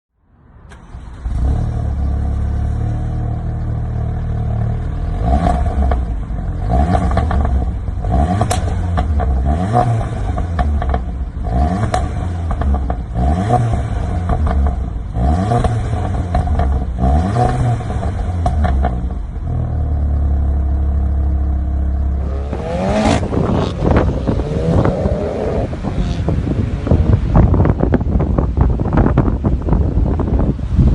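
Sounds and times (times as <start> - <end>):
exhaust crackles and pops: 0.7 - 30.9
car engine revving: 0.8 - 28.3.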